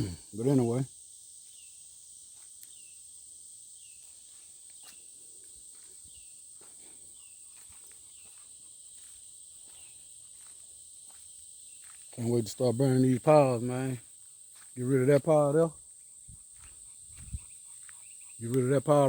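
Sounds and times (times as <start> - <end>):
cricket chorus drone: 0.0 - 19.0.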